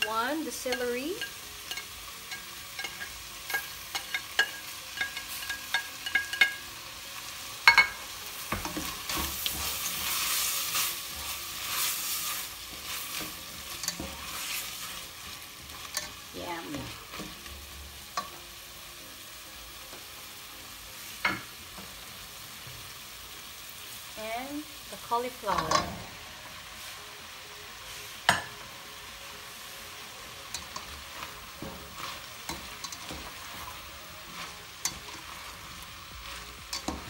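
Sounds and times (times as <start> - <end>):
vegetables sizzling in a pan: 0.0 - 37.0.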